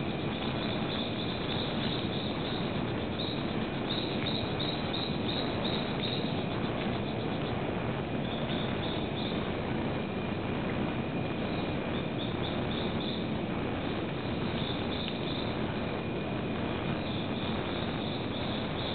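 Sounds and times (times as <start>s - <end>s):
rainforest hiss: 0.0s - 18.9s.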